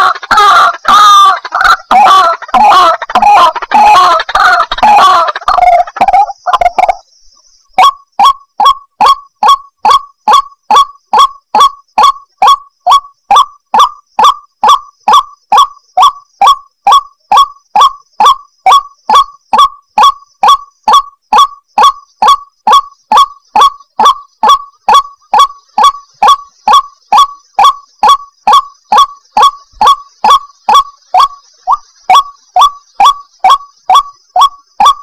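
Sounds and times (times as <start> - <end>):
waterhen calling: 0.0 - 7.1, 7.8 - 35.0.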